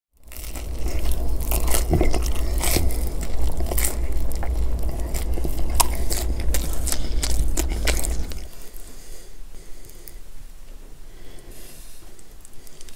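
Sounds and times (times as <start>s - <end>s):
crunchy crust chewing: 0.2s - 10.2s, 11.2s - 12.9s
steady low rumble: 0.2s - 12.9s.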